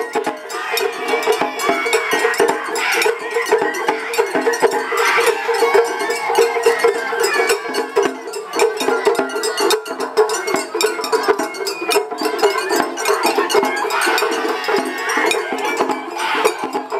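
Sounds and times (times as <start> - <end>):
fast taiko drumming: 0.0 - 16.9.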